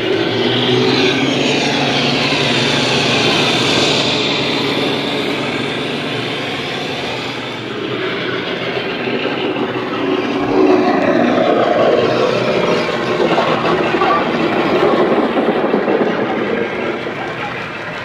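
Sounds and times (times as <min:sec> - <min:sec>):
diesel engine sound from speaker: 0:00.0 - 0:18.0.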